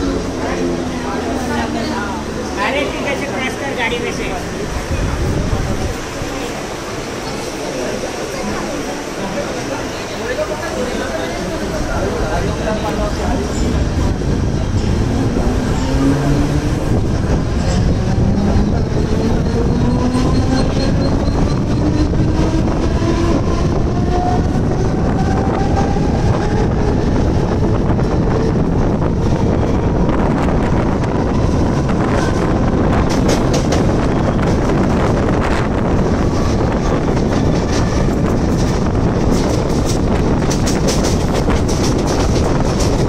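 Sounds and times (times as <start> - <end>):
train wheels rumbling: 0.0 - 43.0.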